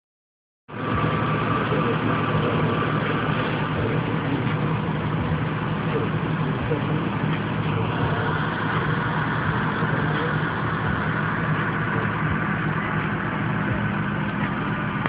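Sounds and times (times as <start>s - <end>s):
truck engine running steadily: 0.7s - 15.0s.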